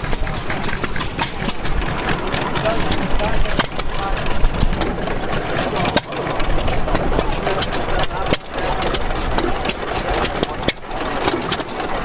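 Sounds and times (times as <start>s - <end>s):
old gas engines running: 0.0s - 12.0s
sharp engine pops and clicks: 0.0s - 12.0s.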